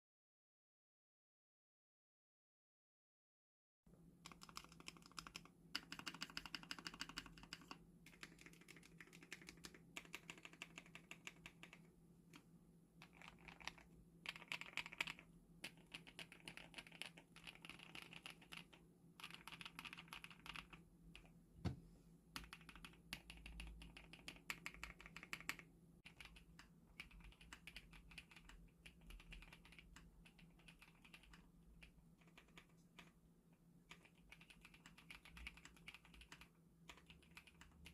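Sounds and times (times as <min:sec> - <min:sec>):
mechanical keyboard typing: 0:04.2 - 0:12.4, 0:13.0 - 0:21.3, 0:22.4 - 0:33.2, 0:33.8 - 0:37.9.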